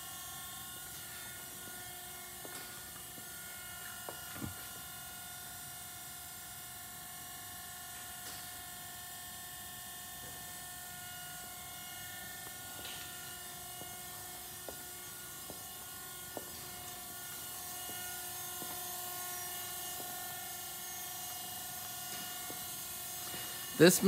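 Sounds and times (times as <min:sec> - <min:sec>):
machine hum with high tones: 0:00.0 - 0:24.0.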